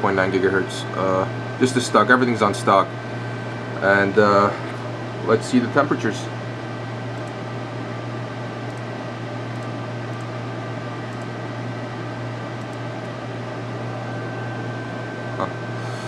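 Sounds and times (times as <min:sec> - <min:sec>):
computer fans whirring: 0:00.0 - 0:16.0
low hum: 0:00.0 - 0:16.0.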